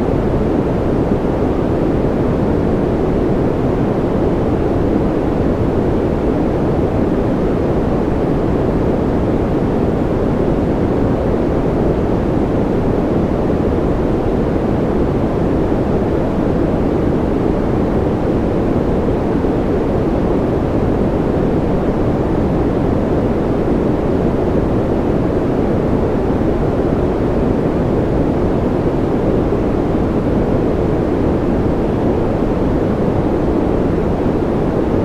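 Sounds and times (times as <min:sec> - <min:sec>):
steady white noise hiss: 0:00.0 - 0:35.0.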